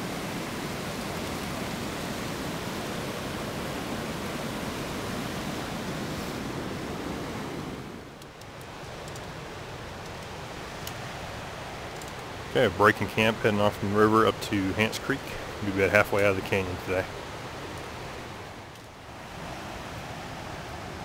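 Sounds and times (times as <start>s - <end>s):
river rapids roaring: 0.0s - 21.0s.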